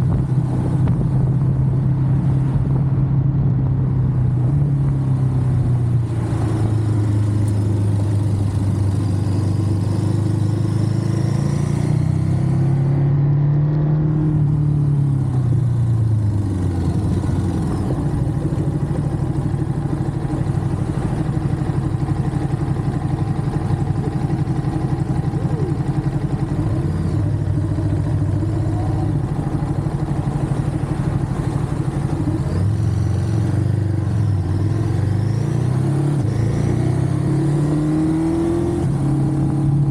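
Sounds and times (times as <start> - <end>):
motorcycle engine running: 0.0 - 13.0, 14.1 - 39.9.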